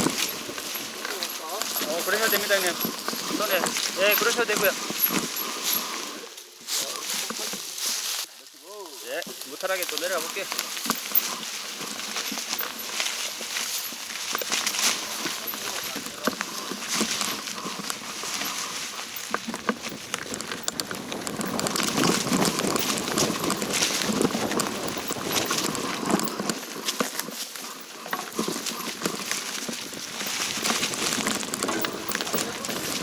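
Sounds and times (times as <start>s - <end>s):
footsteps on gravel: 0.0s - 5.9s, 9.8s - 33.0s
rustling: 0.0s - 33.0s.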